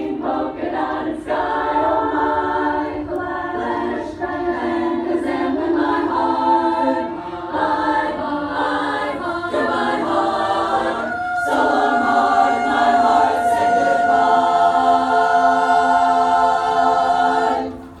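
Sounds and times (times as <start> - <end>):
group singing a cappella: 0.0 - 18.0.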